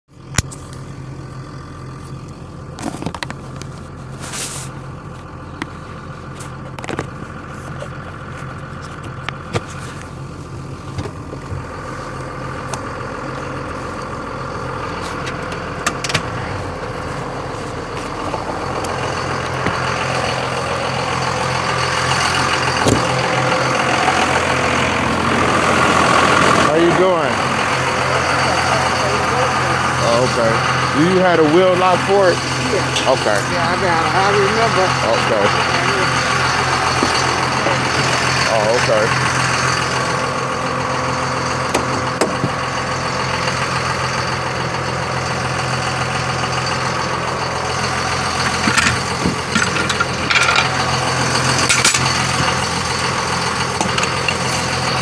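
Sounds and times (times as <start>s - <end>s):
car engine and road noise: 0.1s - 55.0s.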